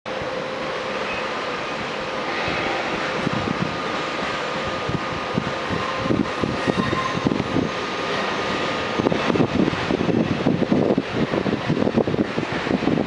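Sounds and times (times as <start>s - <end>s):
electric locomotive hum and whine: 0.1s - 13.0s.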